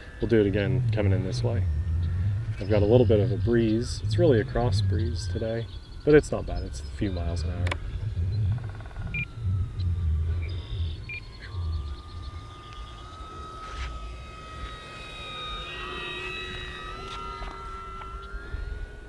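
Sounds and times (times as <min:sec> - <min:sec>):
model plane motor whine: 0:00.0 - 0:19.0
wind on microphone: 0:00.0 - 0:19.0.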